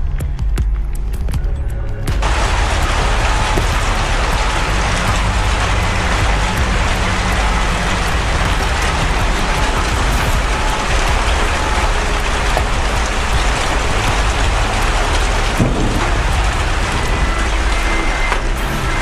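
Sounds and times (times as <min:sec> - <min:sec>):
deep rumble: 0:00.0 - 0:19.0
heavy rain pouring: 0:02.0 - 0:19.0.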